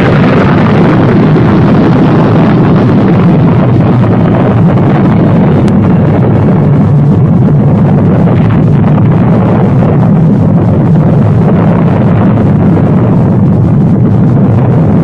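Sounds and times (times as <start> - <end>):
explosion rumble: 0.0 - 15.0.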